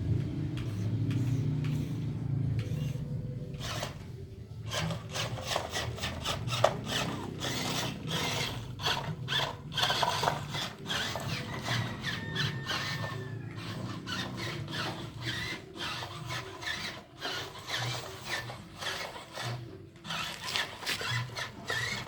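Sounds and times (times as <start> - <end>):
small electric motors whirring: 0.0 - 22.0.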